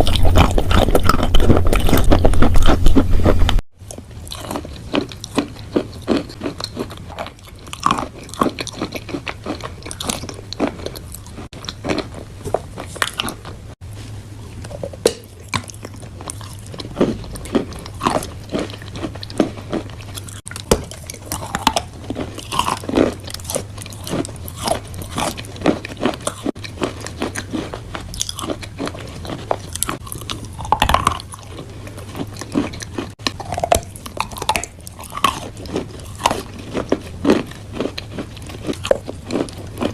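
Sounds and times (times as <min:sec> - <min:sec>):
crunchy chewing: 0:00.0 - 0:39.9
low steady hum: 0:00.0 - 0:39.9.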